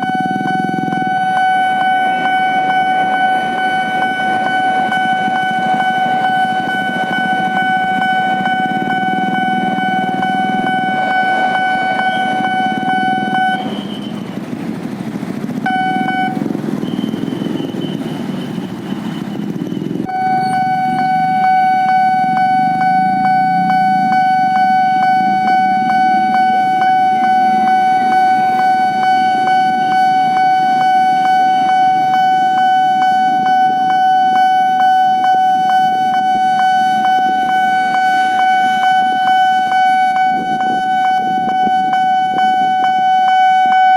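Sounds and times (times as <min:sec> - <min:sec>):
level-crossing warning tone: 0:00.0 - 0:43.9
low rumble of waiting vehicles: 0:00.0 - 0:43.9.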